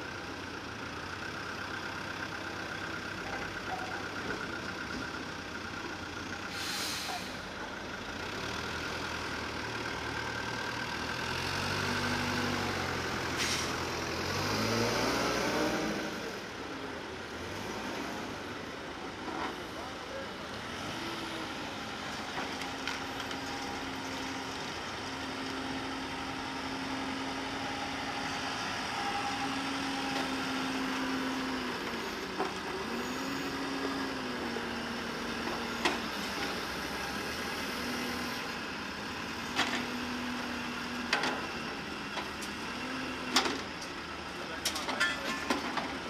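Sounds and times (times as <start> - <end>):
wheel loader diesel engine: 0.0 - 46.0.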